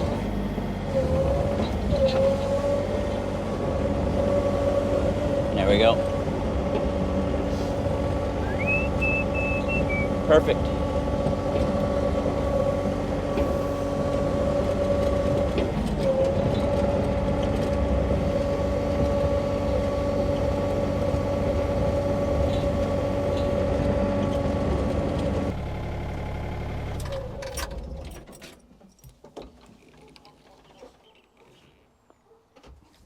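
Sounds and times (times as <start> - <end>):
hydraulic whine: 0.0 - 28.1
diesel engine rumble: 0.0 - 29.0.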